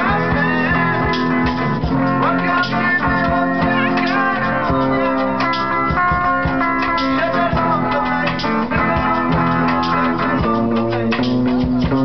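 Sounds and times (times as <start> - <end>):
guitars strummed and plucked: 0.0 - 12.0.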